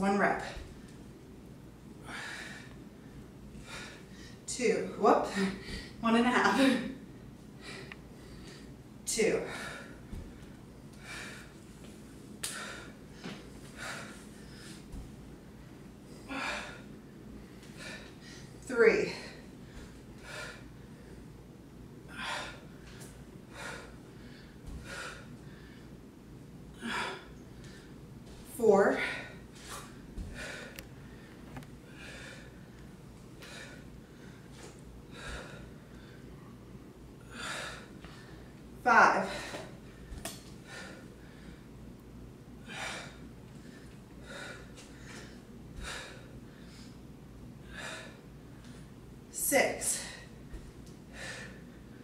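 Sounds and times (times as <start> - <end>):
woman breathing hard: 2.0 - 4.5, 5.3 - 7.0, 7.6 - 8.8, 9.4 - 21.3, 22.1 - 26.0, 26.7 - 28.0, 29.0 - 36.6, 37.2 - 38.6, 39.2 - 41.8, 42.6 - 48.8, 49.9 - 52.0.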